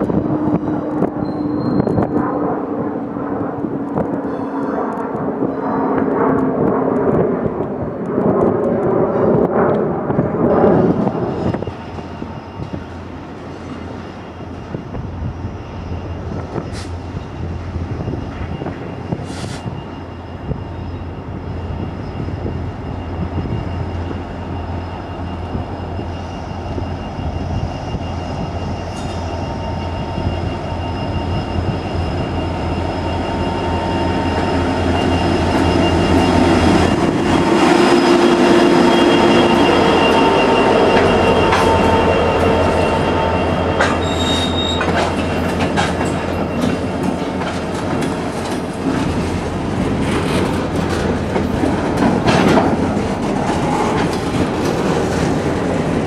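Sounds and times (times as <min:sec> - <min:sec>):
diesel locomotive engines rumbling: 0:00.0 - 0:56.0
high squeals: 0:00.5 - 0:02.4, 0:10.5 - 0:56.0.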